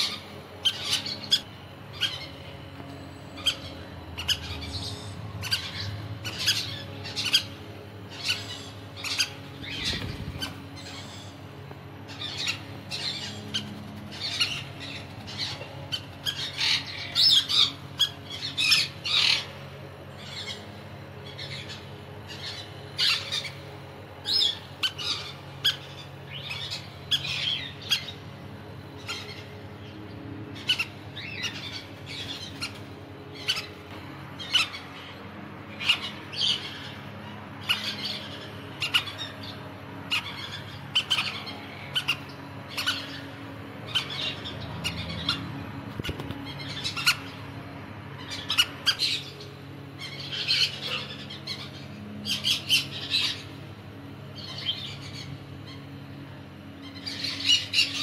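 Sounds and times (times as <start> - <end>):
parrots chirping and squawking: 0.0 - 53.6, 54.3 - 58.0
low steady hum: 0.0 - 58.0.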